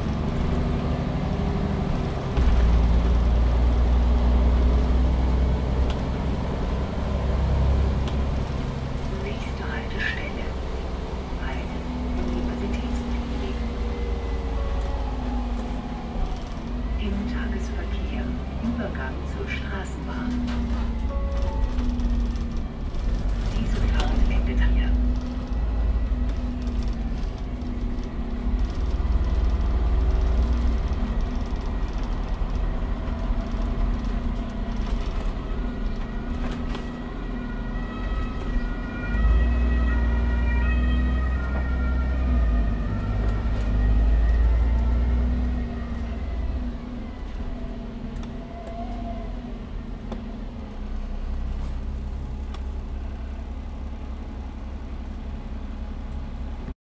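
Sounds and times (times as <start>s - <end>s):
bus engine rumble: 0.0s - 56.8s.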